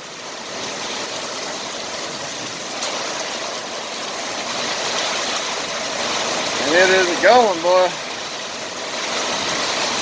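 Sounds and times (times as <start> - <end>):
downpour hissing: 0.0 - 10.0
light hail: 0.2 - 10.0.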